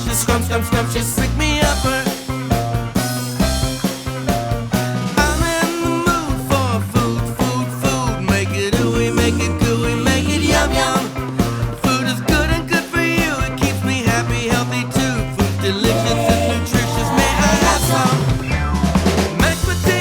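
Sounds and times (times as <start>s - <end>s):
upbeat rock band music: 0.0s - 20.0s.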